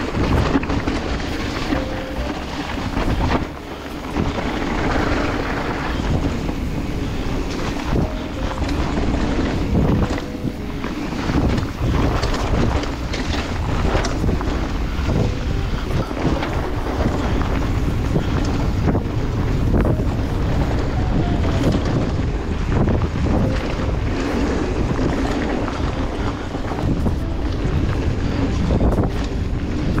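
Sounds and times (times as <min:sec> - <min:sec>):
bike clicks and knocks: 0:00.0 - 0:30.0
bike tyre rumble: 0:00.0 - 0:30.0
wind rushing over microphone: 0:00.0 - 0:30.0.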